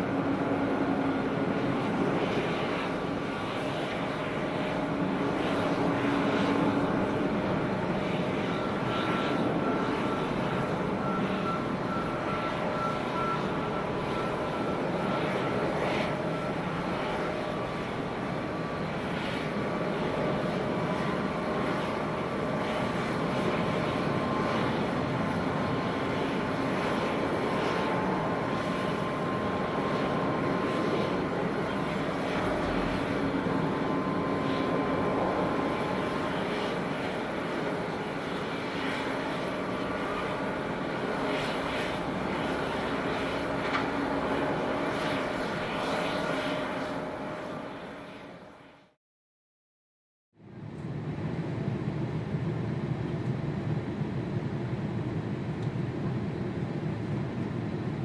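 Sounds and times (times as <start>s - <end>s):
jet engines taxiing: 0.0s - 49.0s, 50.4s - 58.0s.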